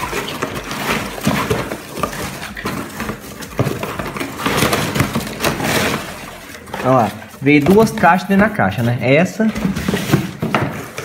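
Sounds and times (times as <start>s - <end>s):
shredded paper rustling: 0.0s - 11.0s.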